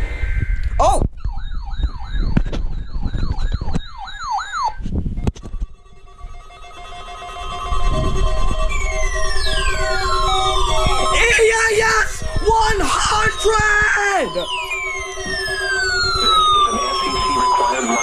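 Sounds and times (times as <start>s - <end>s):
electronic siren yelp: 0.0s - 18.0s
chord of steady electronic tones: 1.2s - 18.0s.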